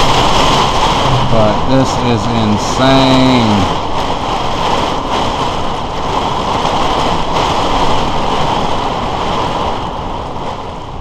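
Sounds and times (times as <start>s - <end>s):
windstorm buffeting a motorhome: 0.0s - 11.0s.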